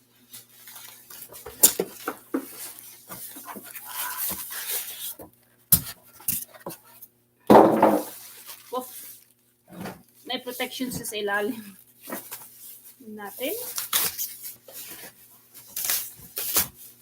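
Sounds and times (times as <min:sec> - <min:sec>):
plastic packaging rustling: 0:00.0 - 0:07.0, 0:07.8 - 0:17.0.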